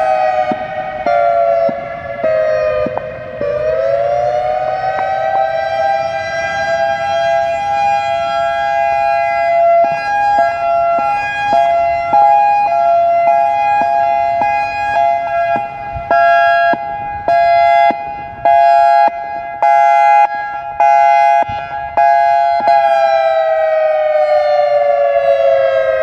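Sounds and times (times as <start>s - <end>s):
two-tone warning siren: 0.0s - 26.0s.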